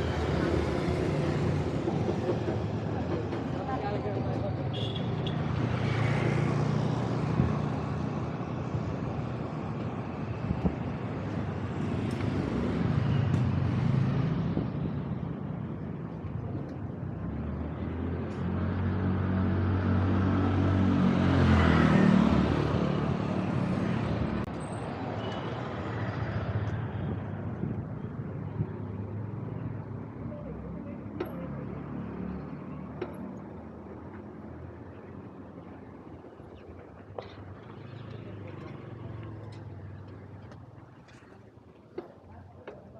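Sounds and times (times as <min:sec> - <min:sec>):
street traffic: 0:00.0 - 0:42.9.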